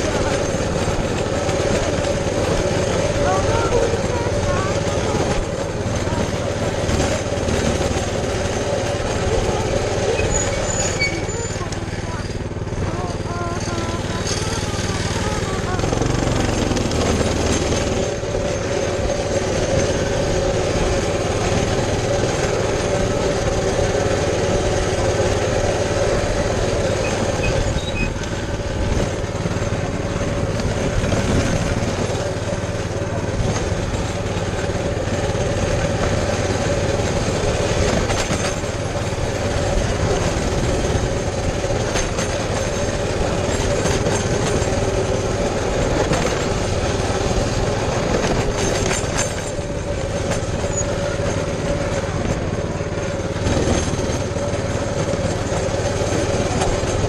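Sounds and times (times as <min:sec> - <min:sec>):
bike rattling and jolting: 0:00.0 - 0:57.0
motorbike engine droning: 0:00.0 - 0:57.0.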